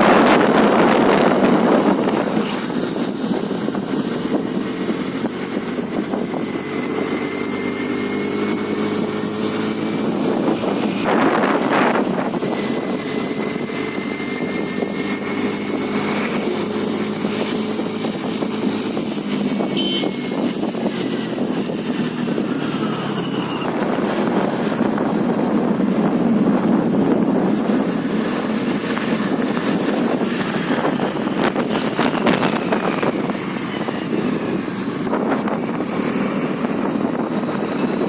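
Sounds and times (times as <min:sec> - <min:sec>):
road noise: 0:00.0 - 0:38.0
scooter engine running: 0:00.0 - 0:38.0
wind buffeting microphone: 0:00.0 - 0:38.0.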